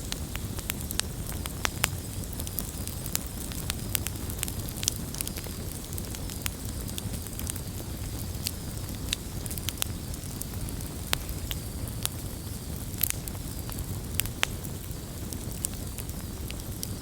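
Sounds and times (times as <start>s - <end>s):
burning wood popping and crackling: 0.0s - 17.0s
flames rumbling: 0.0s - 17.0s.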